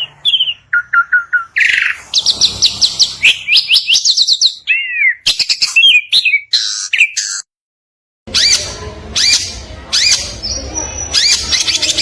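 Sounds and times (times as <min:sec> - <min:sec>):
songbird singing: 0:00.0 - 0:07.5, 0:08.3 - 0:12.0.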